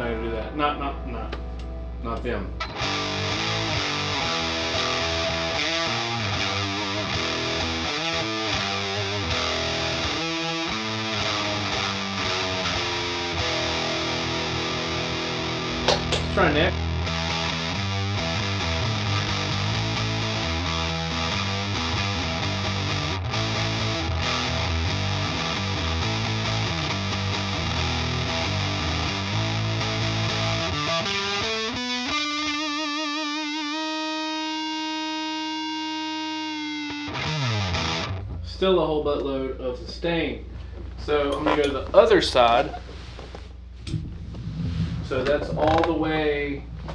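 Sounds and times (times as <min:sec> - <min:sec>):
distorted electric guitar riff: 0:00.0 - 0:38.6, 0:43.8 - 0:46.9.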